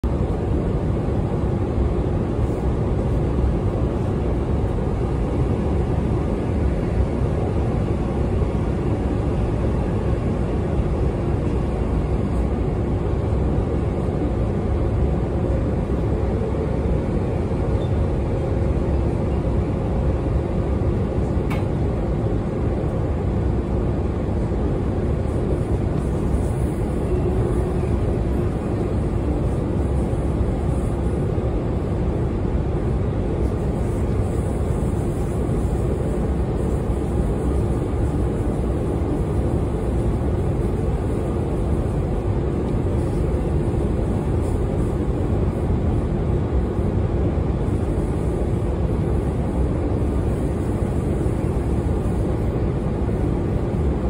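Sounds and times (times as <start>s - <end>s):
steady hum: 0.0s - 54.0s
train wheels rumbling on rail: 0.0s - 54.0s.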